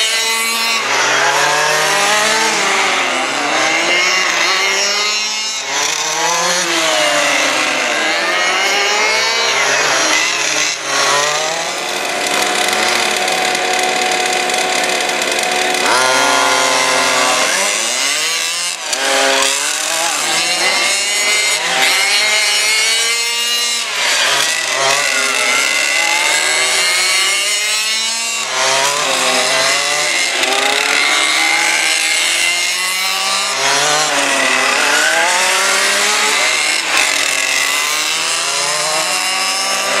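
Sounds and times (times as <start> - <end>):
small two-stroke engines revving: 0.0 - 40.0.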